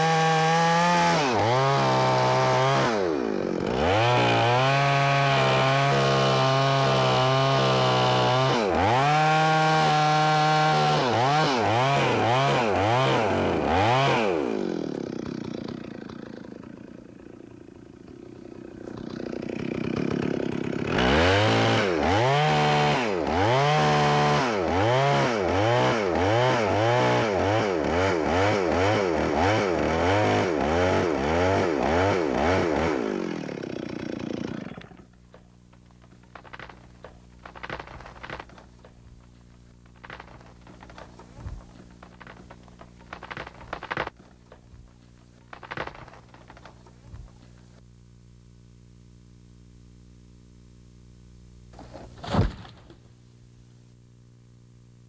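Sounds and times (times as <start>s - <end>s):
chainsaw revving and cutting: 0.0s - 39.0s, 39.9s - 47.7s.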